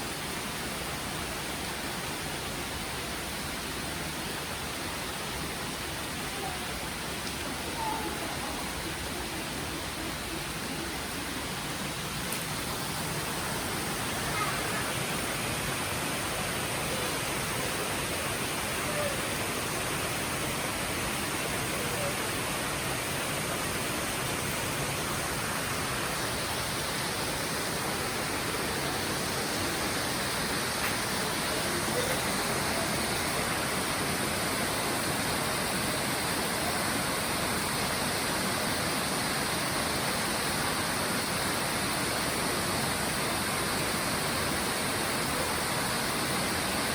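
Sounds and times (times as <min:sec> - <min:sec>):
rain falling in a forest: 0:00.0 - 0:46.9.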